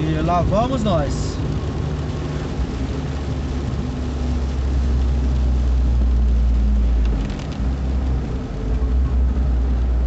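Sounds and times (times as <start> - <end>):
car engine drone: 0.0 - 10.0
tyre noise on wet road: 0.0 - 10.0.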